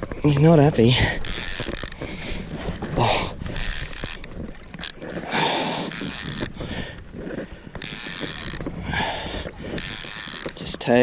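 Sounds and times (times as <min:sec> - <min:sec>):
fishing reel gears ratcheting: 0:00.2 - 0:07.0, 0:07.7 - 0:11.0.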